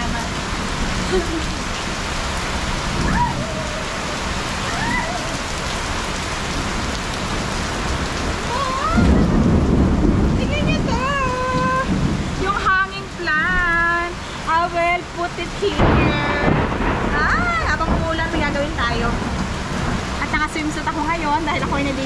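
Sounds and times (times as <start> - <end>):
low rumble: 0.0 - 14.0, 14.9 - 22.0
heavy rain pouring: 0.0 - 22.0.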